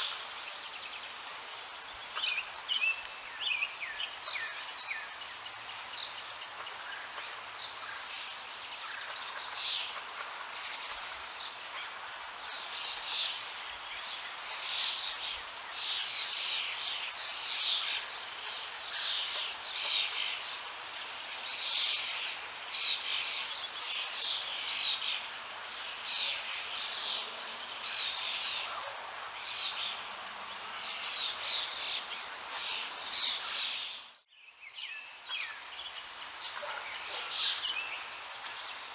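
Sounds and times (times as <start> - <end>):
songbirds chirping and singing: 0.0 - 38.9
steady background hiss: 0.0 - 38.9.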